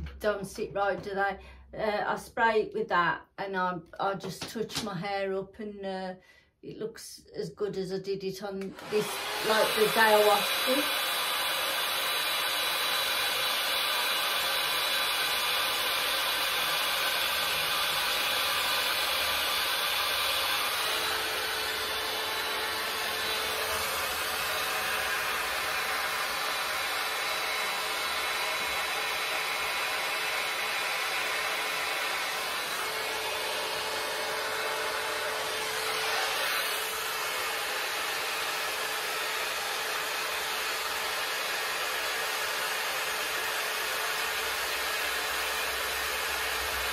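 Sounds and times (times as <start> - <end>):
hot air brush blowing: 8.6 - 46.9.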